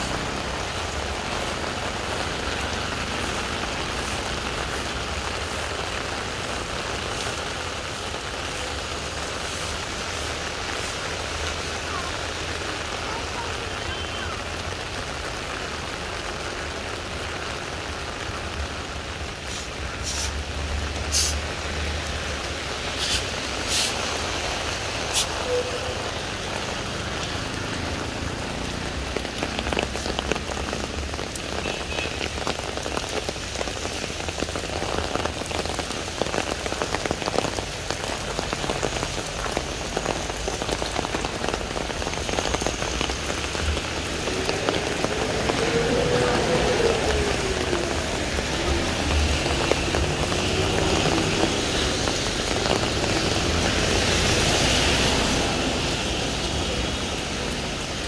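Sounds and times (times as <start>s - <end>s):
rain on paving: 0.0s - 58.0s.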